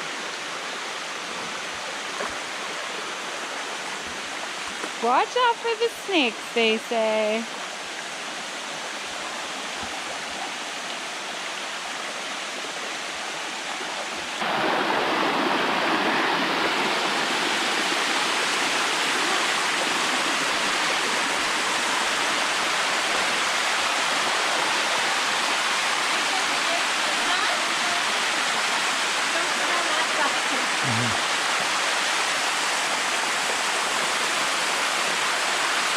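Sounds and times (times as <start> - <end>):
water rushing down waterfall: 0.0 - 35.9.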